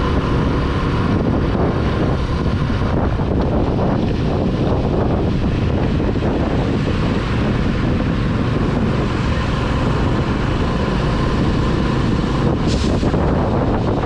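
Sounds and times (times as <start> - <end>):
motorcycle engine: 0.0 - 14.0
tyres on wet road: 0.0 - 14.0
wind buffeting microphone: 0.0 - 14.0.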